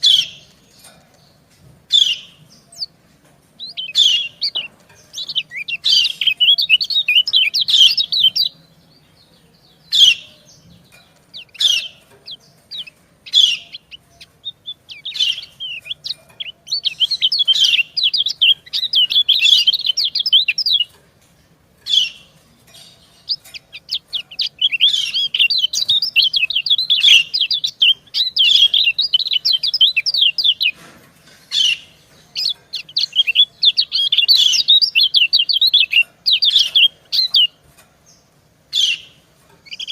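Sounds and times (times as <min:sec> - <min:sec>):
bird chirps and twittering: 0:00.0 - 0:39.9.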